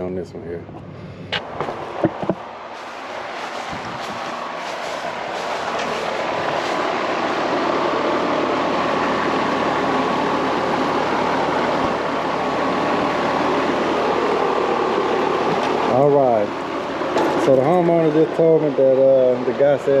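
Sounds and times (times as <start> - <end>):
machine whooshing with low hum: 0.6 - 17.2.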